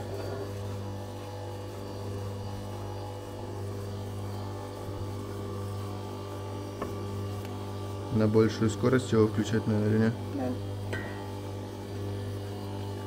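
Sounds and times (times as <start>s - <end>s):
electric mixer motor humming: 0.0s - 13.0s.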